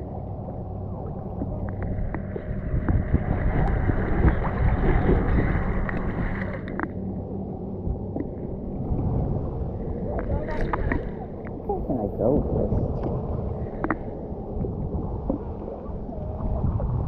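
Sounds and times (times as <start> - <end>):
low rumble: 0.0 - 17.0
water sloshing and splashing: 0.0 - 17.0.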